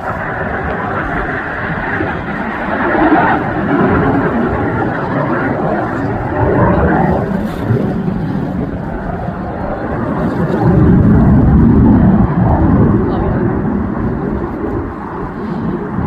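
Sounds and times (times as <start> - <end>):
jet engines flying past: 0.0 - 16.0.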